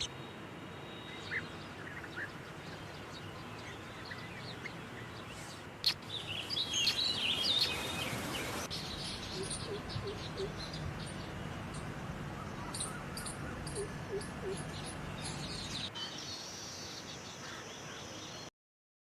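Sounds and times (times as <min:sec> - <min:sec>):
outdoor background noise: 0:00.0 - 0:18.5
small birds chirping: 0:00.0 - 0:18.5.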